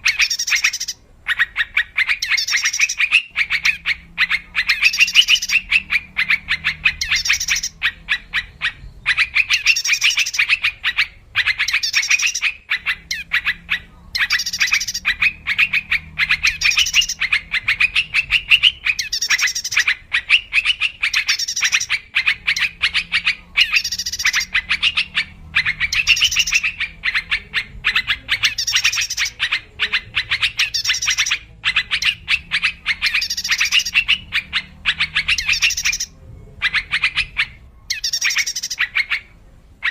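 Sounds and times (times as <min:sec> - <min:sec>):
bird song with rapid chattering notes: 0:00.0 - 0:39.9.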